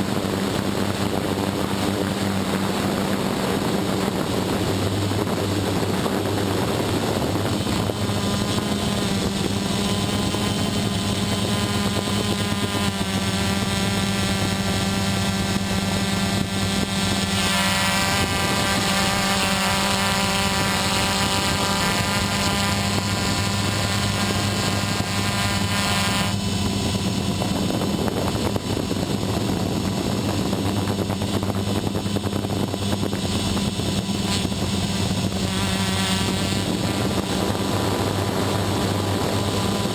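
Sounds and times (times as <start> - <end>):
quadcopter motors buzzing: 0.0 - 39.9.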